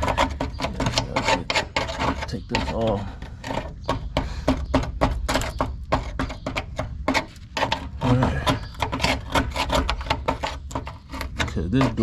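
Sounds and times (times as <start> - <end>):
hand tool scraping rusted metal: 0.0 - 12.0.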